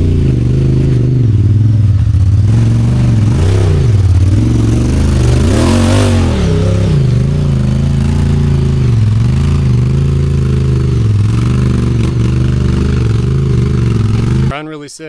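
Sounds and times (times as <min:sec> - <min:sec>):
engine revving: 0:00.0 - 0:14.6.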